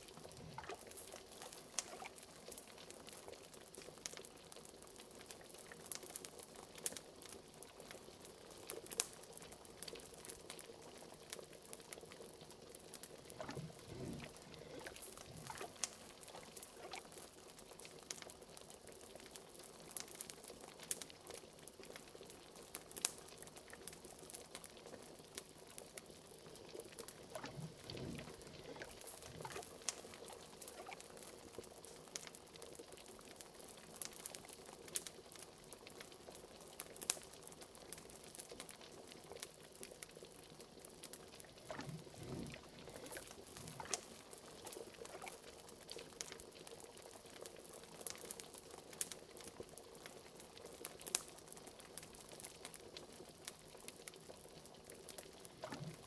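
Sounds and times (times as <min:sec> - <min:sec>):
liquid bubbling in a pot: 0:00.0 - 0:56.0
wood fire crackling: 0:00.0 - 0:56.0.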